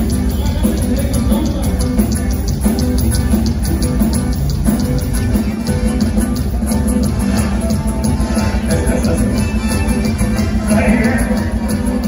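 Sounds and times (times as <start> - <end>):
live band with tuba and drums: 0.0 - 12.0.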